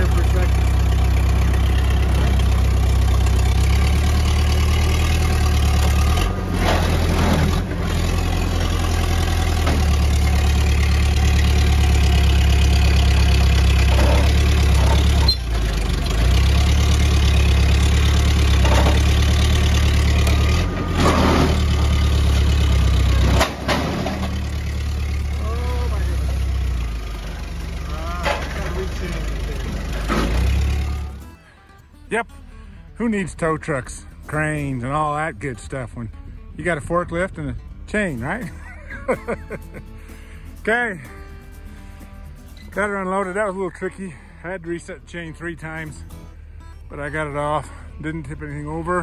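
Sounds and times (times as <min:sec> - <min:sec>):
forklift engine running: 0:00.0 - 0:49.0.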